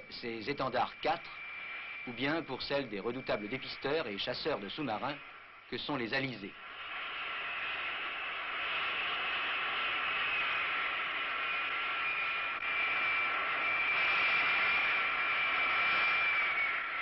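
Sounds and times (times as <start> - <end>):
jet engine whine: 0.0 - 17.0.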